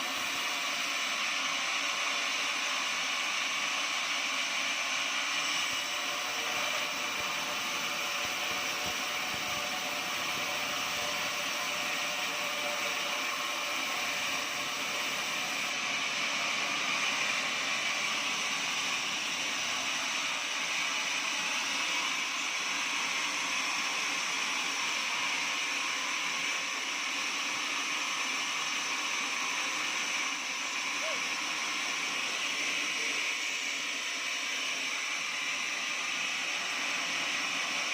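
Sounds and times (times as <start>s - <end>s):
sawmill saw cutting log: 0.0s - 37.9s.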